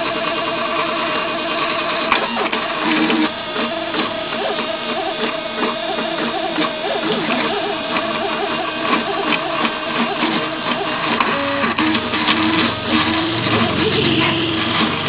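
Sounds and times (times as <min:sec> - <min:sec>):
cutting plotter motors whining: 0:00.0 - 0:15.0.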